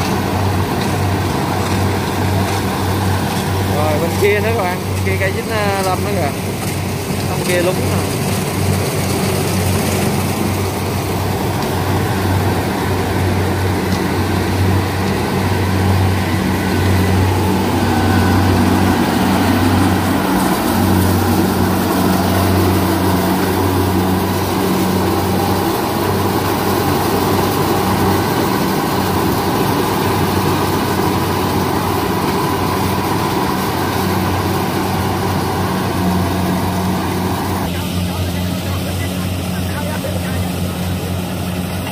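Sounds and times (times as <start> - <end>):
diesel engine humming: 0.0 - 41.9.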